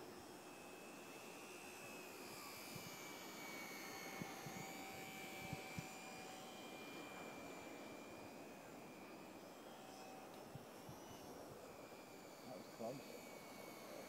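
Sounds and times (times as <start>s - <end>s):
model plane motor whine: 0.0s - 14.0s.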